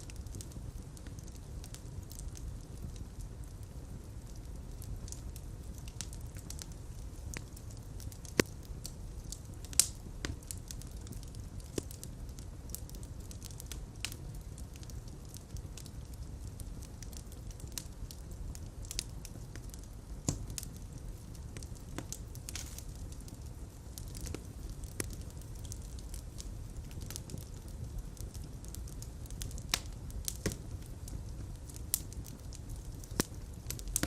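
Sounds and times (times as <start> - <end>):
fireplace fire crackling and popping: 0.0 - 34.0.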